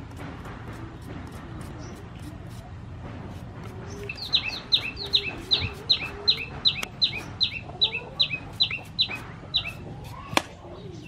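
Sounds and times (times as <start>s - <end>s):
peeler shredding potato: 0.0s - 10.6s.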